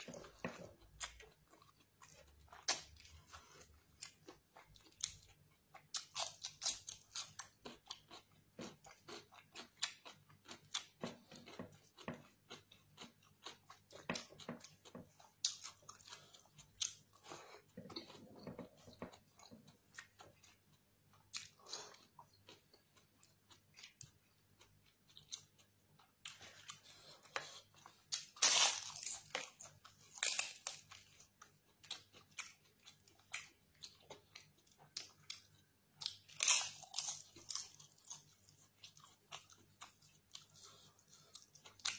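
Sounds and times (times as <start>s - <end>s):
man chewing crunchy food: 0.0s - 41.9s.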